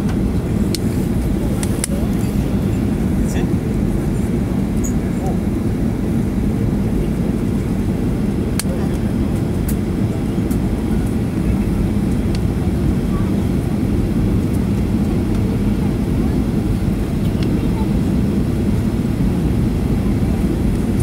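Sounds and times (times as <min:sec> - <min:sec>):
jet airliner cabin drone: 0:00.0 - 0:21.0.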